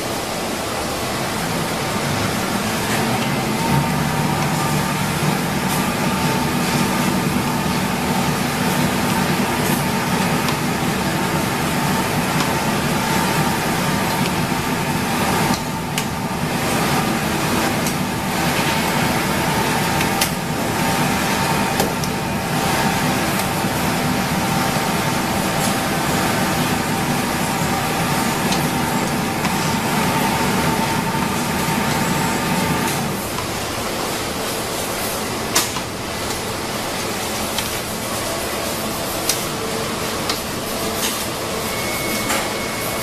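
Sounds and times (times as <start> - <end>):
mechanical drone with whine: 0.0 - 43.0.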